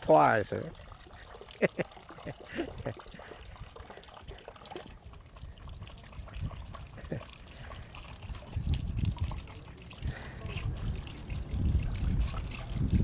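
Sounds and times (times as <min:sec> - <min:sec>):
water trickling into a bucket: 0:00.0 - 0:13.0
hands rinsed under water: 0:00.6 - 0:13.0.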